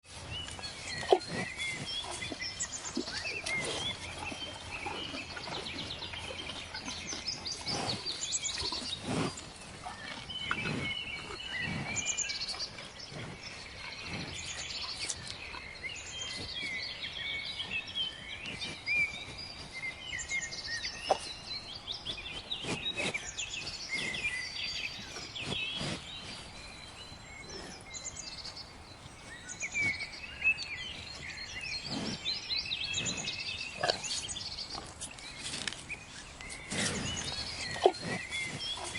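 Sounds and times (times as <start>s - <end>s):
cows chewing grass: 0.1s - 38.9s
small birds chirping: 0.1s - 38.9s.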